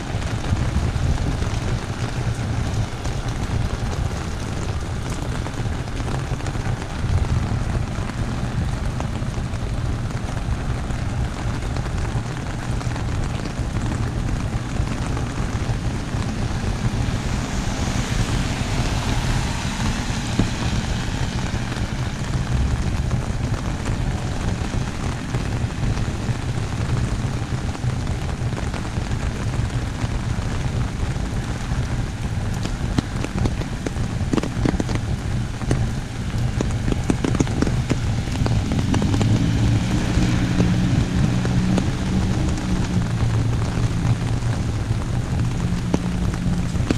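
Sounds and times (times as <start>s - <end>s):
heavy rain on an umbrella: 0.0s - 46.9s.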